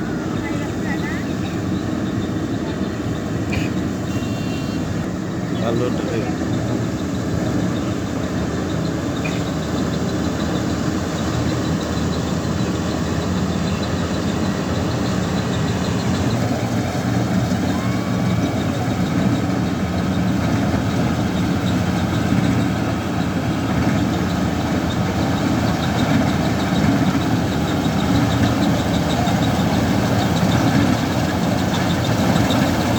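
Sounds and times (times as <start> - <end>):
combine harvester droning: 0.0 - 32.9.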